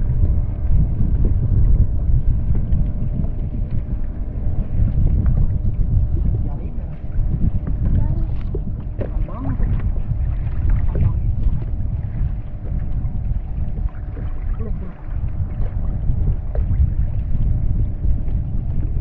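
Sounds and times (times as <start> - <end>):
water lapping against boat hull: 0.0 - 19.0
wind buffeting microphone: 0.0 - 19.0.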